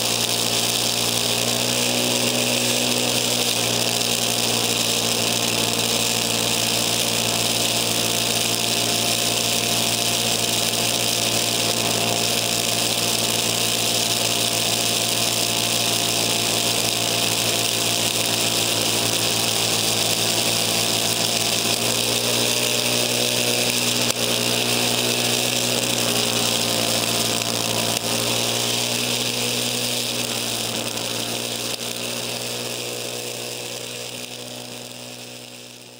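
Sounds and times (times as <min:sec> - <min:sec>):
snowblower engine running: 0:00.0 - 0:35.9.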